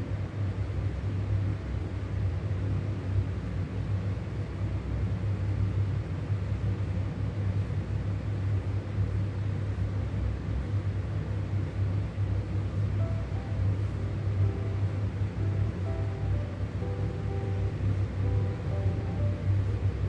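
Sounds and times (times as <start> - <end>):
deep constant hum: 0.0 - 20.0
room noise rumble: 0.0 - 20.0.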